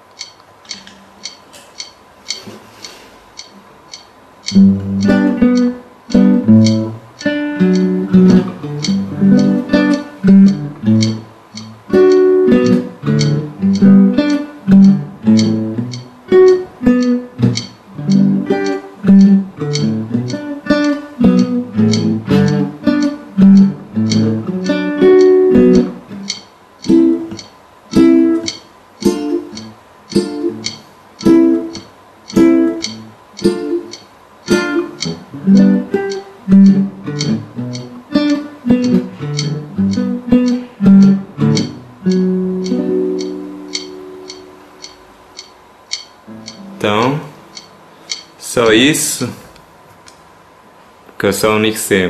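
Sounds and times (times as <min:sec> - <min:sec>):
guitar playing chords: 0:04.4 - 0:48.8.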